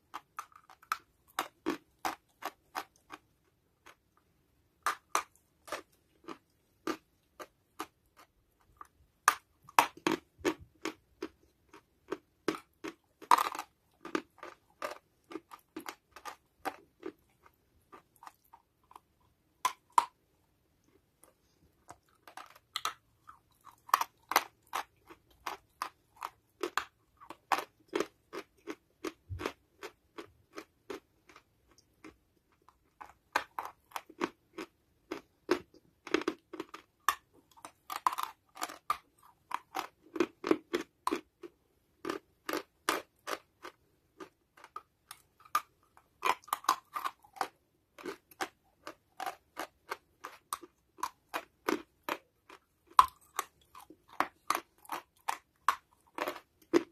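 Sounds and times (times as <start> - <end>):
person chewing crunchy chalk: 0.0 - 4.1, 4.8 - 20.2, 20.8 - 56.9.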